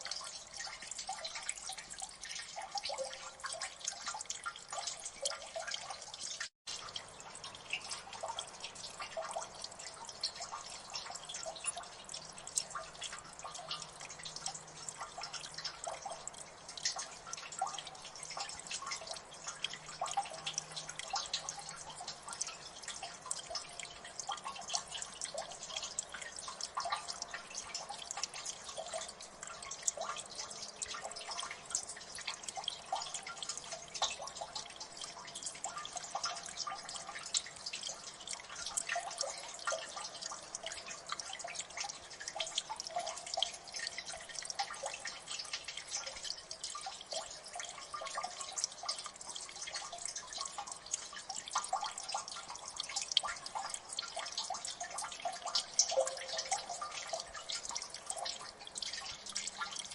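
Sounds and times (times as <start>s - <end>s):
water drops plinking: 6.8s - 59.9s.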